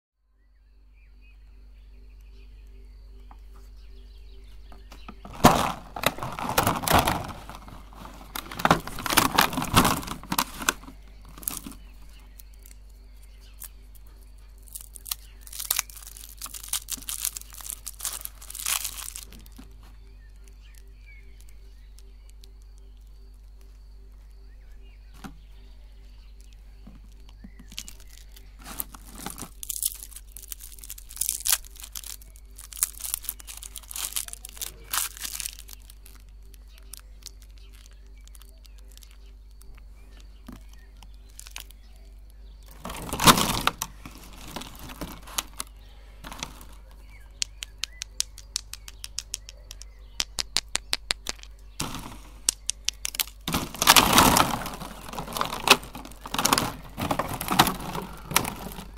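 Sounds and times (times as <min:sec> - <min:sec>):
plastic wrappers crinkling and tearing: 0:05.0 - 0:23.1, 0:26.4 - 0:58.9.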